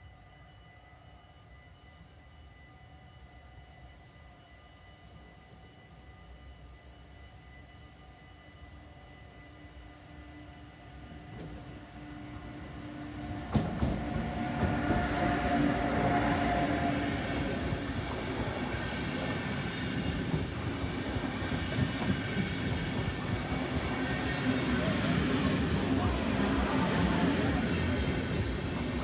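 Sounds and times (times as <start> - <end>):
electric locomotive humming: 0.0 - 29.0
train coaches running on rails: 0.0 - 29.0.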